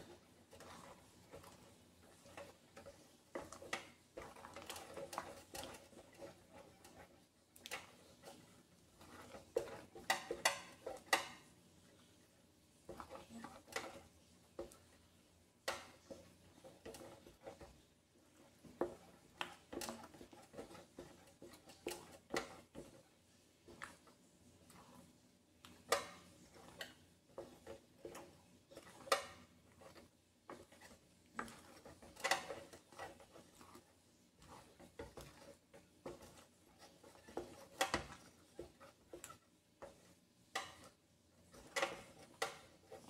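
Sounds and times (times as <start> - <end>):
spatula scraping a metal pan: 0.0 - 43.0.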